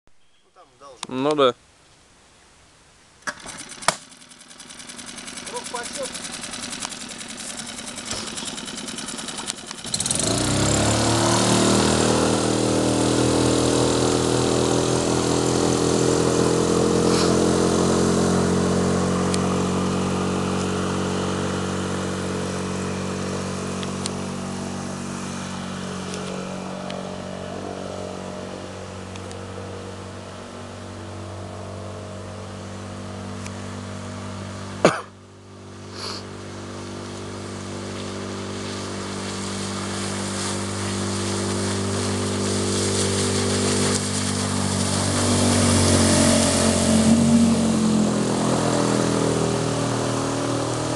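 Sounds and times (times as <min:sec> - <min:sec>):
outboard motor running: 0:03.3 - 0:50.9.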